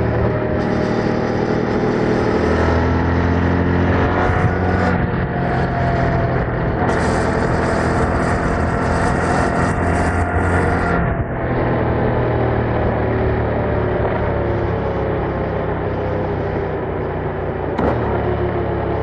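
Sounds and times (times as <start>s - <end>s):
wind noise: 0.0s - 16.6s
motorcycle engine running: 0.0s - 19.0s.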